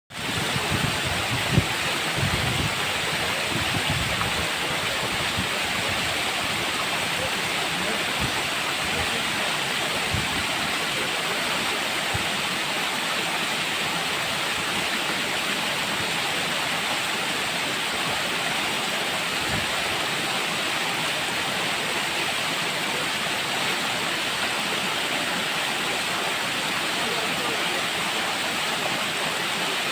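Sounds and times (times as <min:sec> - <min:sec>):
rushing water: 0:00.1 - 0:29.9.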